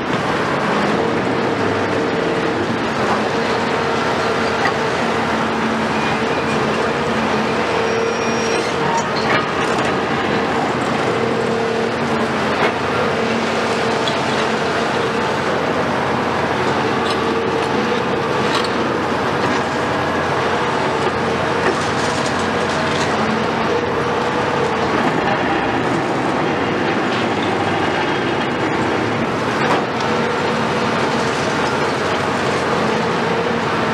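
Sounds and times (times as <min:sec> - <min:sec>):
excavator engine droning: 0:00.0 - 0:33.9.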